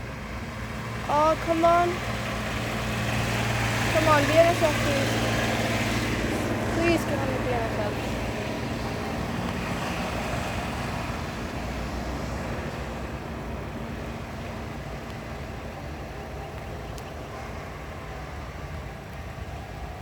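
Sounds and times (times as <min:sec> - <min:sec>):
engines idling: 0:00.0 - 0:20.0.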